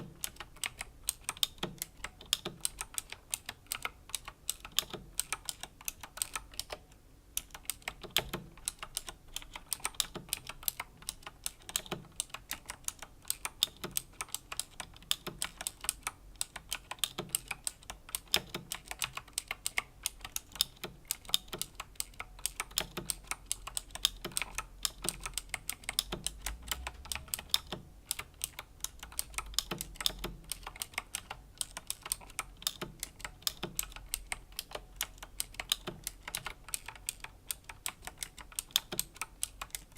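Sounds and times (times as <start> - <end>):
clicky mechanical keyboard typing: 0.0 - 39.9.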